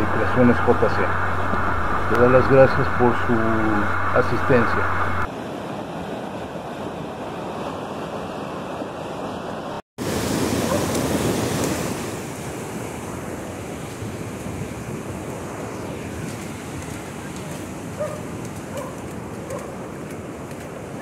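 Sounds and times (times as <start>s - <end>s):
flood torrent rushing: 0.0s - 8.3s, 10.0s - 21.0s.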